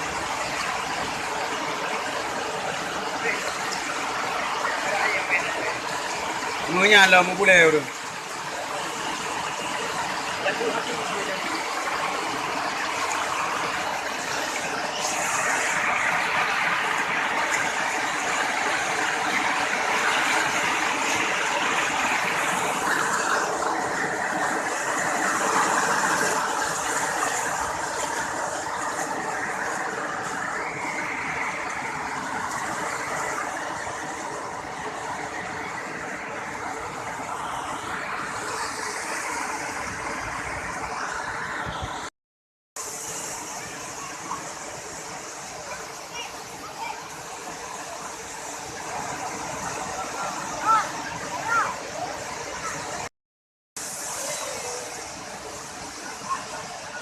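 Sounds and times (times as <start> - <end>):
waterfall rushing: 0.0 - 42.1, 42.8 - 53.1, 53.8 - 57.0.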